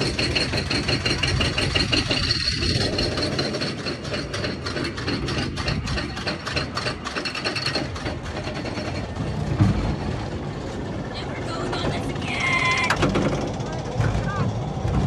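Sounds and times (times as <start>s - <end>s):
low rumble of lift chain: 0.0s - 15.0s
roller coaster ratchet clacking: 0.0s - 15.0s.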